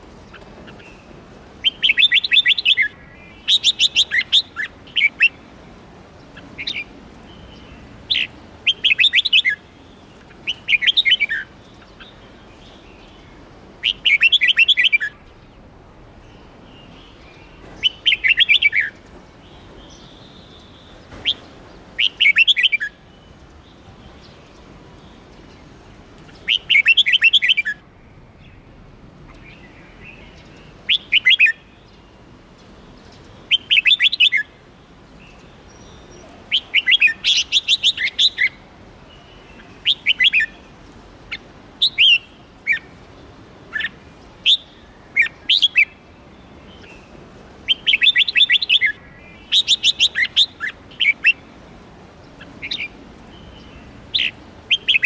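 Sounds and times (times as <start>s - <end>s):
bird singing warbled phrases: 0.2s - 55.0s.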